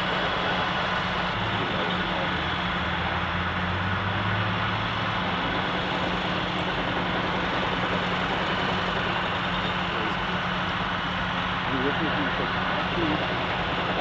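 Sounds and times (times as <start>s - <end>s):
construction site noise: 0.0s - 14.0s
crane engine humming: 0.0s - 14.0s.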